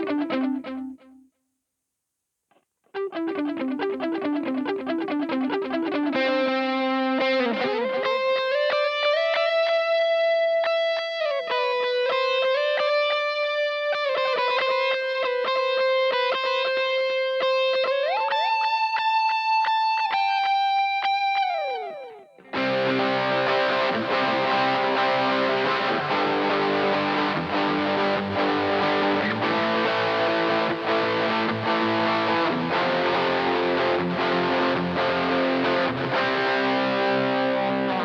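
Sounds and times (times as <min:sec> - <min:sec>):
distorted electric guitar: 0:00.0 - 0:01.2, 0:02.5 - 0:38.0.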